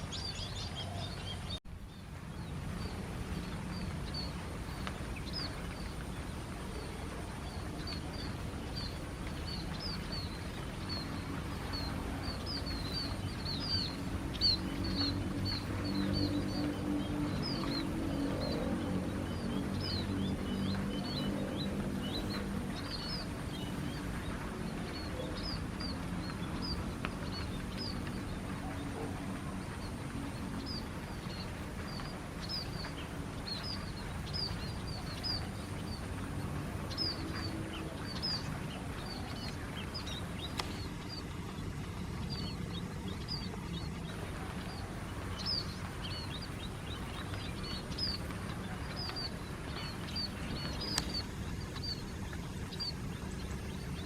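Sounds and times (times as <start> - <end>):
small birds chirping: 0.0 - 54.0
steady low rumble: 0.0 - 54.0.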